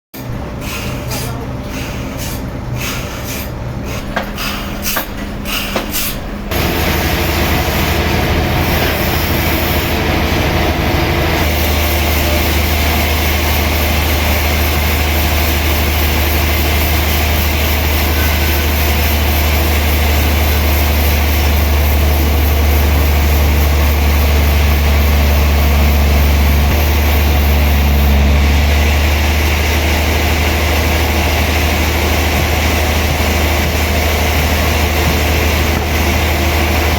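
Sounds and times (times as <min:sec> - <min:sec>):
sawmill machinery humming: 0:00.2 - 0:36.9.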